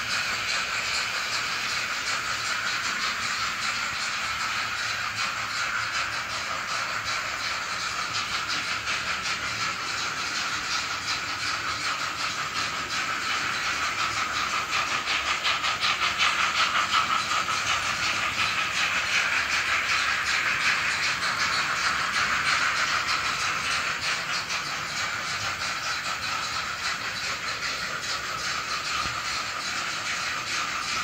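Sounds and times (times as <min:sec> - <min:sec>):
steam hiss: 0:00.0 - 0:31.0
steam locomotive chuffing from speaker: 0:00.0 - 0:31.0.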